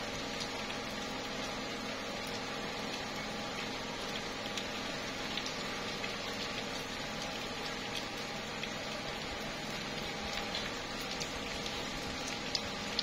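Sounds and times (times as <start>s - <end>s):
faint steady hum: 0.0s - 13.0s
rain on leaves: 0.0s - 13.0s
raindrops ticking: 0.0s - 13.0s.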